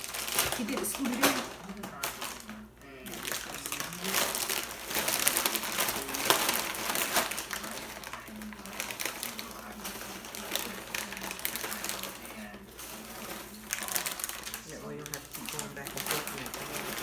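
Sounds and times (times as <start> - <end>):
chips crunching: 0.0 - 17.0
faint voice: 0.0 - 17.0.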